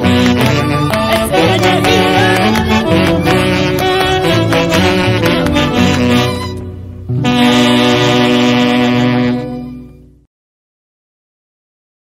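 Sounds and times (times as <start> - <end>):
band holding a long chord: 0.0 - 10.3.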